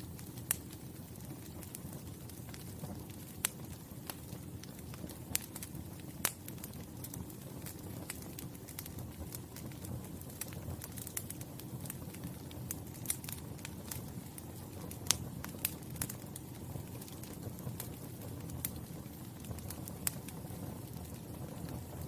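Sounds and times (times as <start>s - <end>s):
fire flames rumbling: 0.0s - 22.0s
fire popping and snapping: 0.0s - 22.0s.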